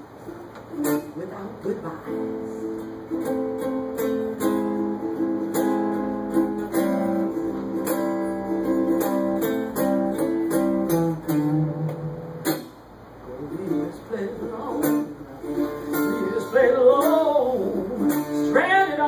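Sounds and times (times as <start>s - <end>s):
acoustic guitar playing blues: 0.0s - 19.0s.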